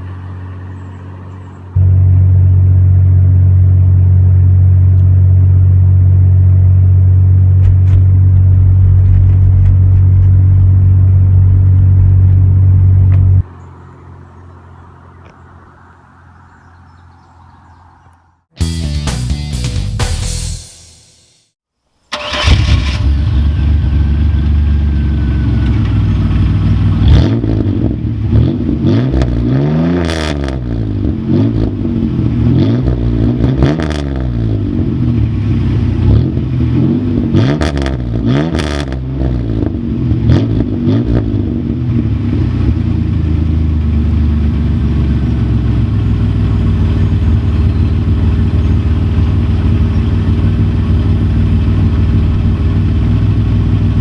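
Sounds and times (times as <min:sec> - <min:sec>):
car engine idling and revving: 0:00.0 - 0:18.5, 0:22.1 - 0:54.0.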